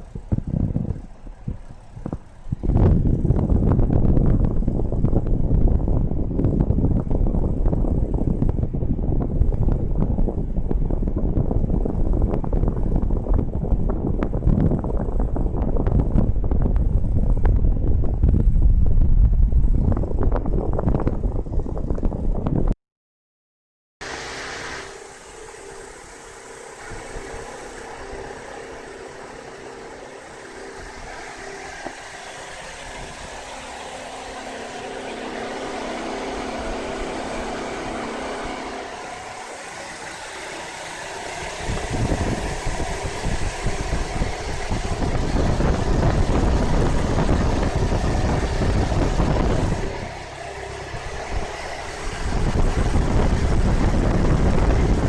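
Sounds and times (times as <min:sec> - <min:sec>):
car engine idling: 0:00.0 - 0:18.6, 0:24.0 - 0:55.0
rushing buffeting air noise: 0:00.0 - 0:22.8, 0:24.0 - 0:55.0.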